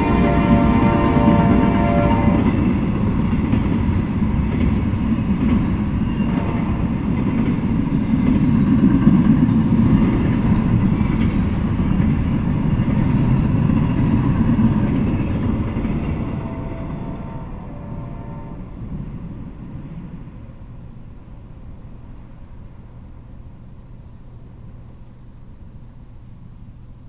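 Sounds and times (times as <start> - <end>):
freight train rolling past: 0.0 - 26.5.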